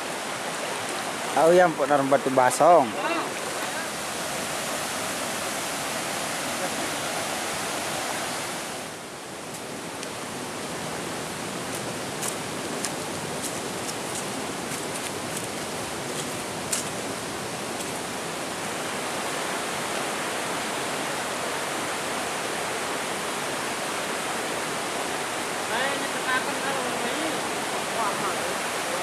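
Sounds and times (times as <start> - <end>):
rushing water roar: 0.0 - 29.0.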